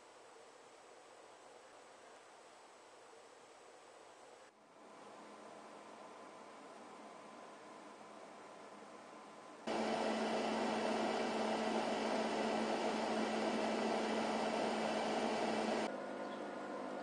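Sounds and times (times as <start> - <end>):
computer fans whirring: 0.0 - 17.0.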